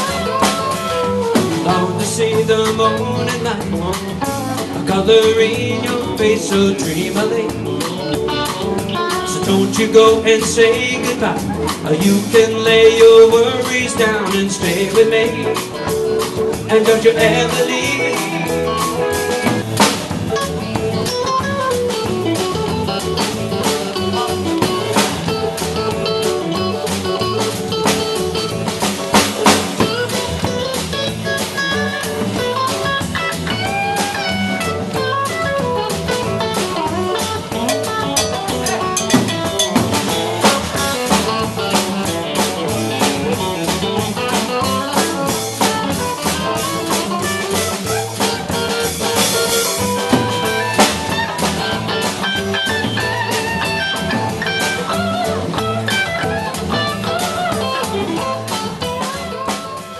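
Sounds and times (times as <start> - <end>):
bluesy band guitar and drums: 0.0 - 59.9.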